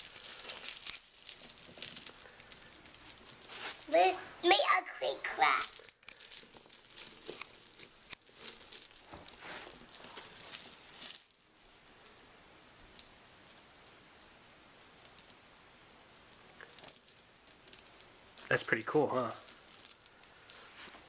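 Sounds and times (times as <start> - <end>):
glow sticks cracking: 0.0 - 21.0
plastic rustling: 0.0 - 21.0.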